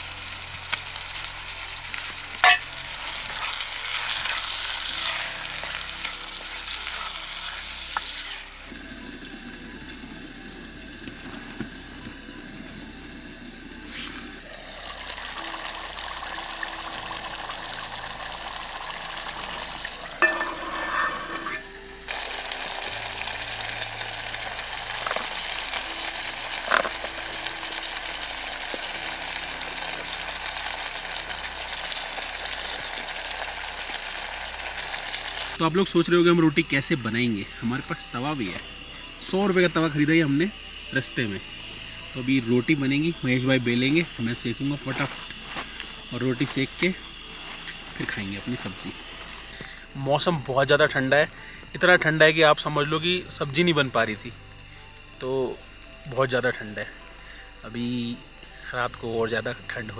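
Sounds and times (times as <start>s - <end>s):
gravy sizzling in a pot: 0.0s - 51.0s.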